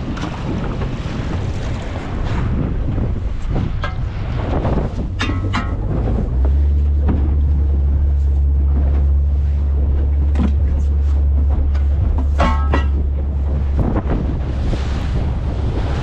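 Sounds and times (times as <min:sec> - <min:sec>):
boat engine drone: 0:00.0 - 0:16.0
water noise: 0:00.0 - 0:16.0
wind: 0:00.0 - 0:16.0.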